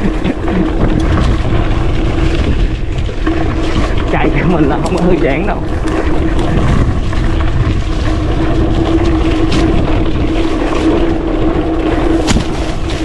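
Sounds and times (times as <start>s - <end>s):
bike rattling over bumps: 0.0s - 13.0s
bike tyres rumbling on dirt: 0.0s - 13.0s
wind: 0.0s - 13.0s.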